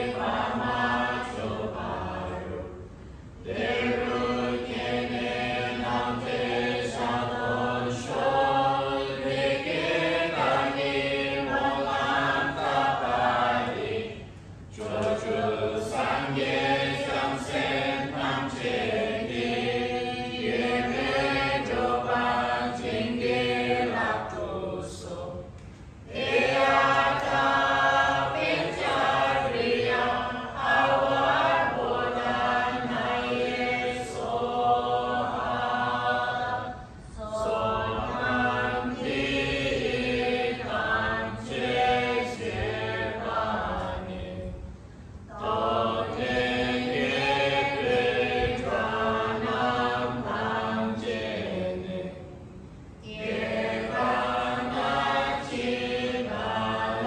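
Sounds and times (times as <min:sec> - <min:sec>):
group chanting prayers: 0:00.0 - 0:44.7, 0:45.3 - 0:57.0.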